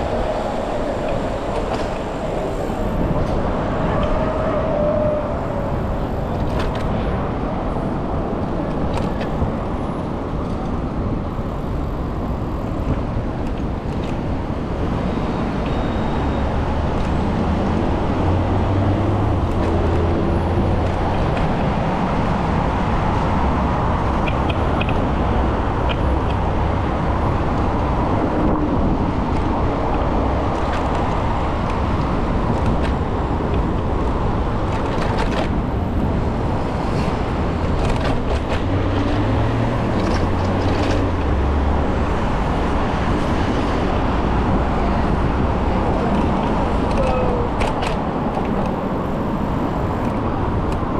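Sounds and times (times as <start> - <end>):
city road traffic: 0.0 - 50.9
large vehicle engine rumbling: 0.0 - 50.9.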